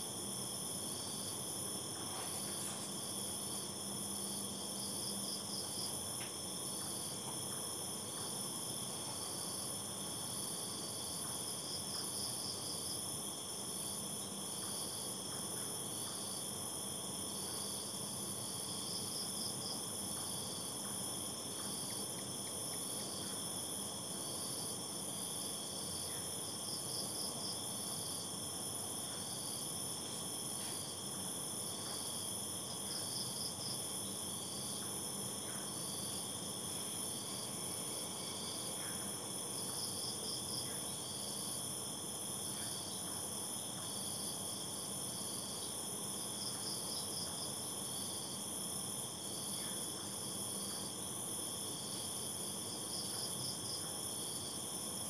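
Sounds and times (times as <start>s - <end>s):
cricket chirp: 0.0s - 55.0s
crickets droning: 0.0s - 55.0s
insect trill: 0.0s - 55.0s.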